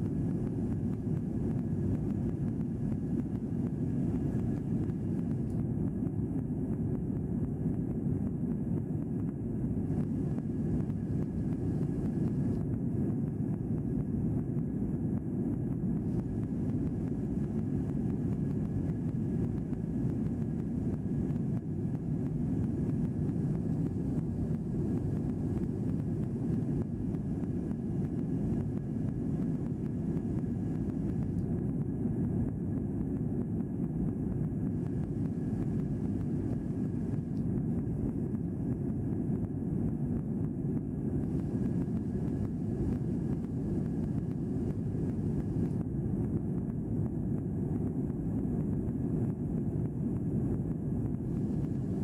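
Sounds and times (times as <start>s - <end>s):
faint high hum: 0.0s - 52.0s.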